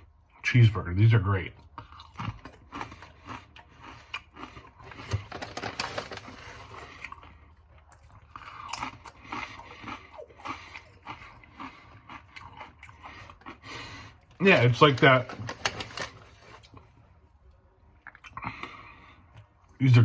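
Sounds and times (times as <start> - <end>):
person chewing crisp chips: 1.6 - 19.7.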